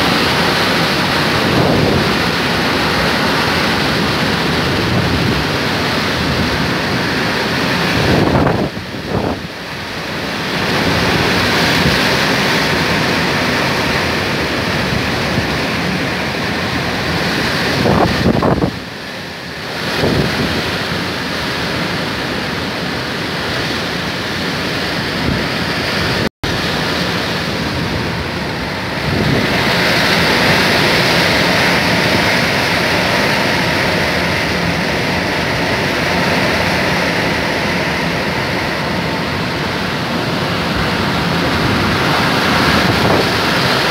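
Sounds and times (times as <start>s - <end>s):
wind buffeting microphone: 0.0s - 43.9s
wind gusting through trees: 0.0s - 43.9s.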